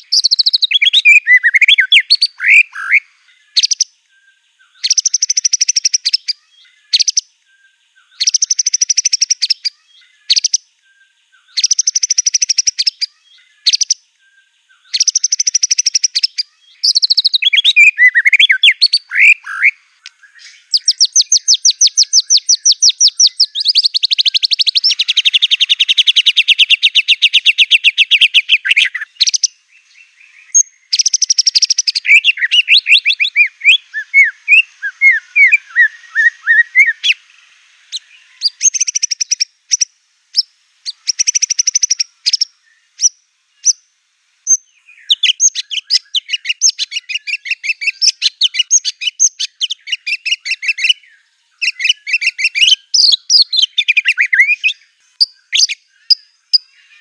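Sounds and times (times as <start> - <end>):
bird singing rattling trills: 0.0 - 57.0.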